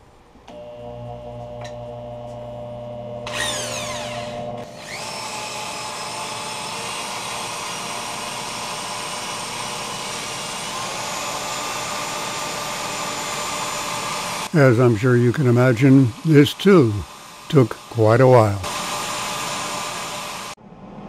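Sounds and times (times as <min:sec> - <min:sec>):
motor spinning up: 0:00.5 - 0:14.5, 0:15.3 - 0:20.6
power sander running: 0:00.5 - 0:20.6.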